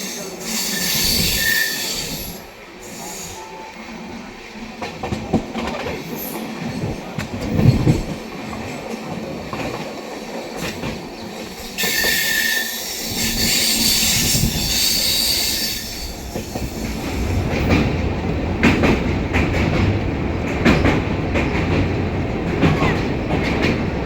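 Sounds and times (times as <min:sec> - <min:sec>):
train wheels clattering on track: 0:04.6 - 0:24.0.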